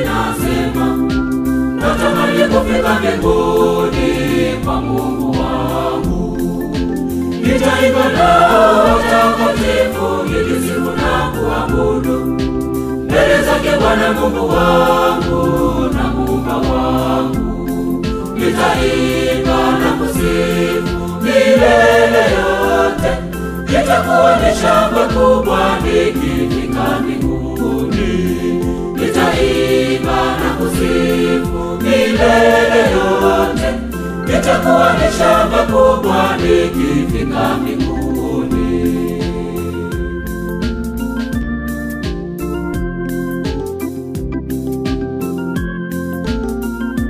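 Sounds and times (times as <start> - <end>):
choir singing a gospel hymn: 0.0 - 41.5
instrumental backing: 0.0 - 47.0.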